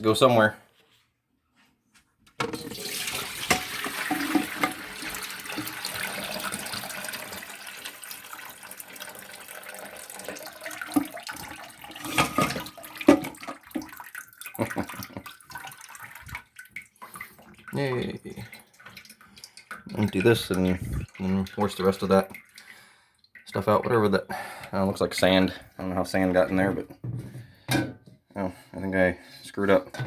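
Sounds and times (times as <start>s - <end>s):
water gushing from toilet tank: 2.5s - 26.8s.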